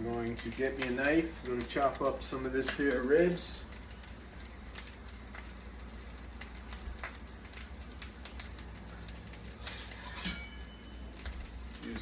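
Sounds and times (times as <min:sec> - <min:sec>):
rice sizzling in oil: 0:00.0 - 0:12.0.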